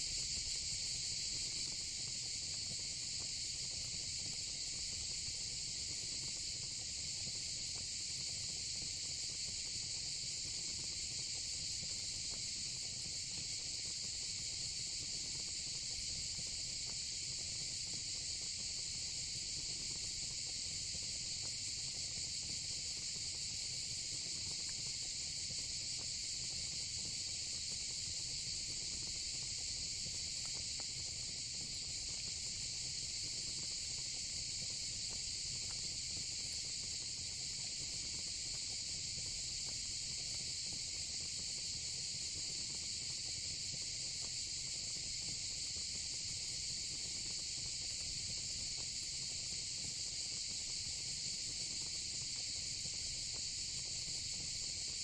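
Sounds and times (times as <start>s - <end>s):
crickets and cicadas buzzing: 0.0s - 55.0s.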